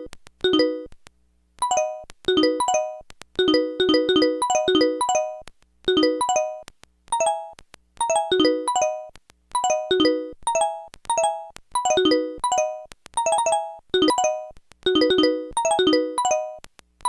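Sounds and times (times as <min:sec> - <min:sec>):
bell-like ringtone melody: 0:01.6 - 0:06.6, 0:07.2 - 0:16.6.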